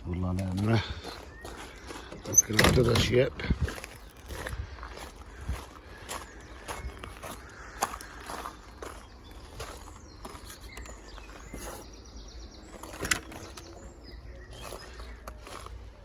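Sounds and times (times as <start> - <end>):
footsteps with knocks: 0.2 - 16.0.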